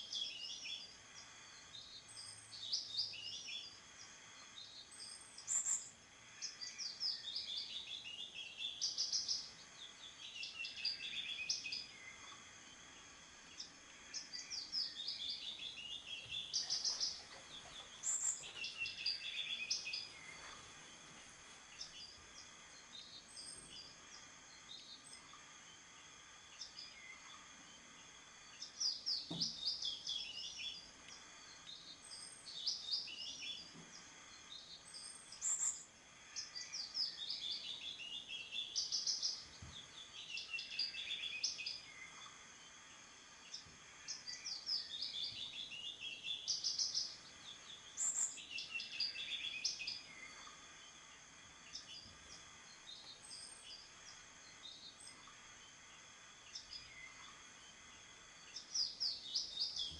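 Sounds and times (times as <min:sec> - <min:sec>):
birds singing: 0:00.0 - 0:59.9
faint hiss: 0:00.0 - 0:59.9.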